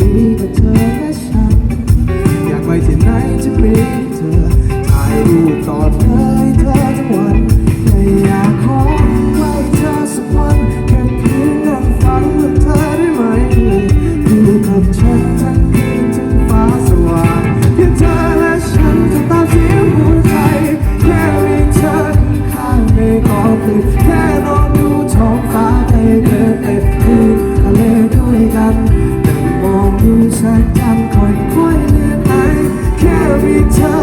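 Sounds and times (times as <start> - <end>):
live pop band playing: 0.0 - 34.0
person singing: 0.0 - 34.0.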